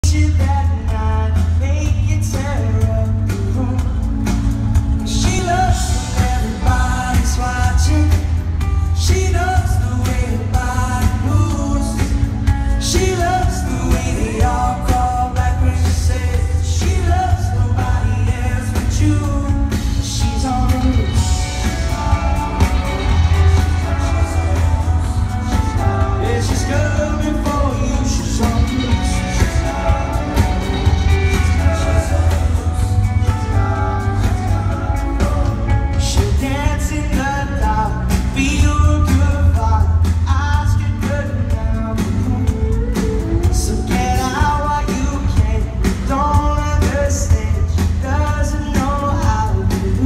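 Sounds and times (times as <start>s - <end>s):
heavy boomy bass: 0.0s - 50.0s
lead singer singing: 0.0s - 50.0s
live rock band playing: 0.0s - 50.0s.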